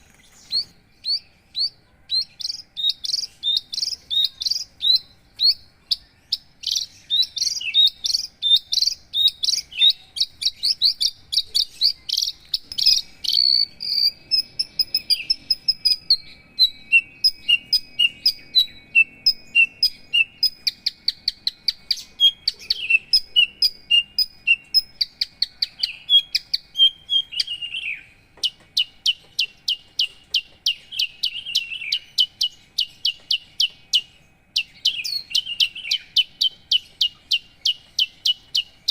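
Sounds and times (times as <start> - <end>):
lark singing fast chirps: 0.0 - 38.9.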